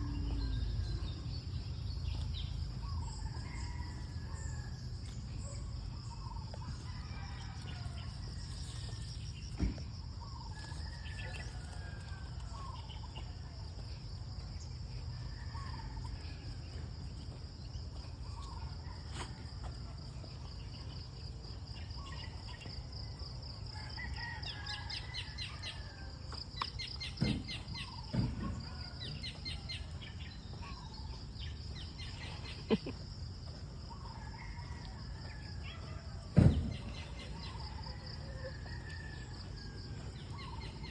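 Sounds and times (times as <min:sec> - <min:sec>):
insect drone: 0:00.0 - 0:40.9.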